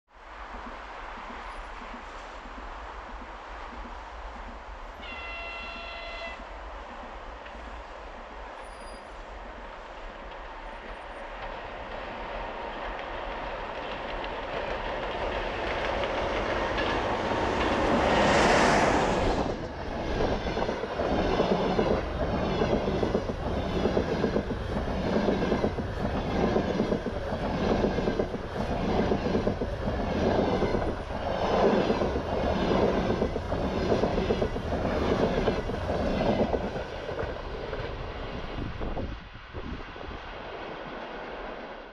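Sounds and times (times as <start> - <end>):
train wheels clickety-clack: 0.4 - 39.1
electric locomotive passing: 3.6 - 41.9.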